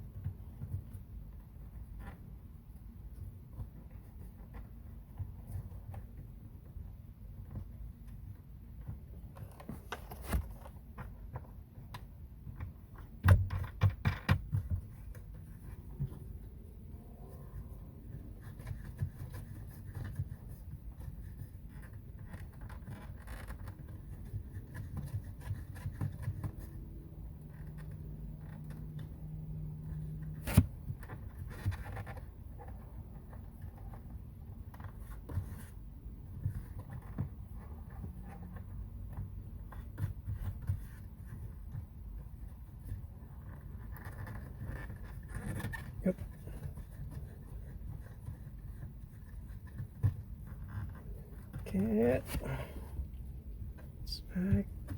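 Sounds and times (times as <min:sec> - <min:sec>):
hands scraping and rubbing parts: 0:00.0 - 0:54.9.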